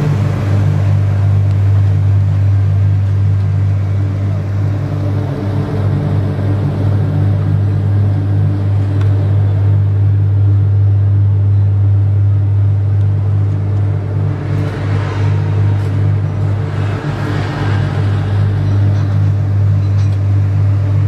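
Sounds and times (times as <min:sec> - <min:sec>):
paving machine engine droning: 0:00.0 - 0:21.0.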